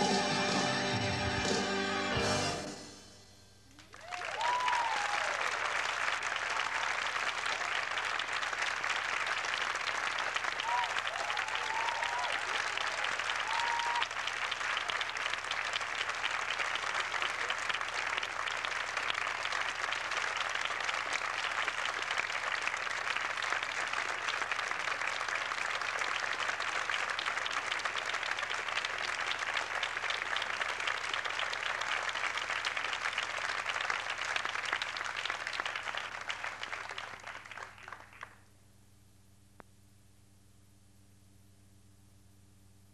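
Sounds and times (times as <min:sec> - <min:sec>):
audience applauding: 0:03.7 - 0:38.5.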